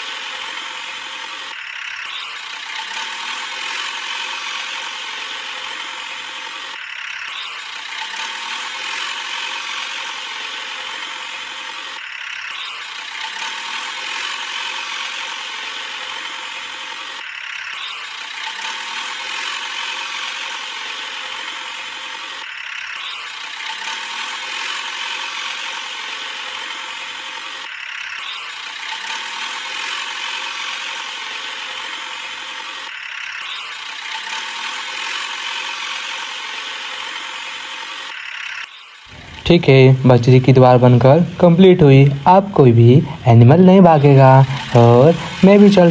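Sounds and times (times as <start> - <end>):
toy motor whirring and clicking: 0.0 - 39.5.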